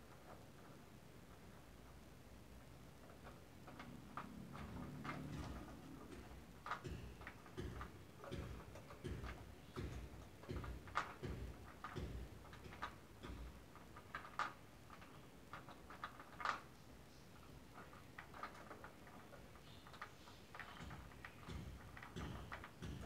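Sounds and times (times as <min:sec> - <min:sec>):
bird pecking plastic balls: 0:02.9 - 0:23.0.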